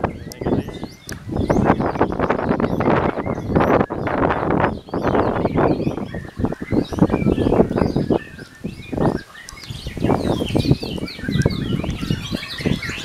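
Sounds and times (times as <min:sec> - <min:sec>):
bird singing chirps and whistles: 0:00.0 - 0:13.0
bursts of low noise: 0:00.0 - 0:13.0.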